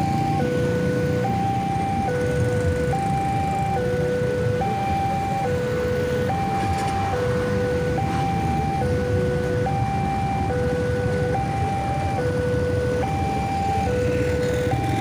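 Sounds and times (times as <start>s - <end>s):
level crossing two-tone alarm: 0.0s - 15.0s
motorcycle engines running: 0.0s - 15.0s.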